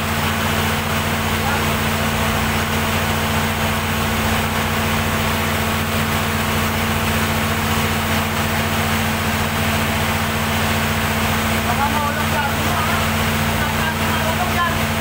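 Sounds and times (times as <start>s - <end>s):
diesel generator droning: 0.0s - 15.0s.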